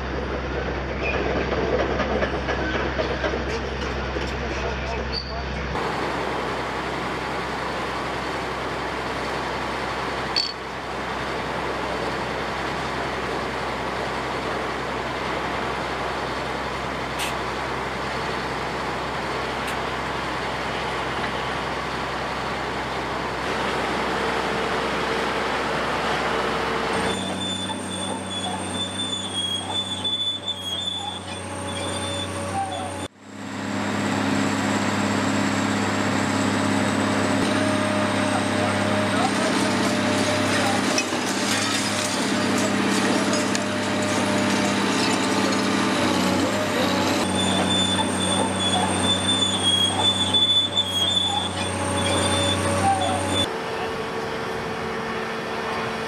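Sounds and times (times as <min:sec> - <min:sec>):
excavator diesel engines humming: 0:00.0 - 0:56.0.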